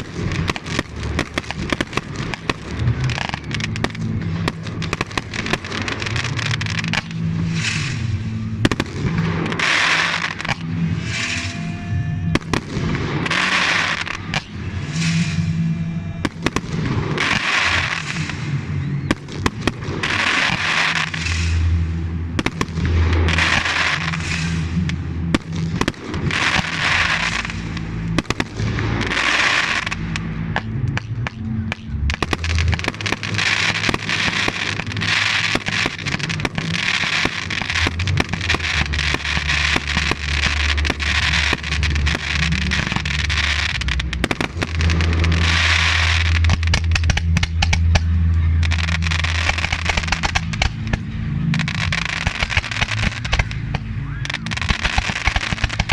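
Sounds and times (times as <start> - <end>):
fireworks bangs: 0.0 - 55.9
fireworks crackling and hissing: 0.0 - 55.9.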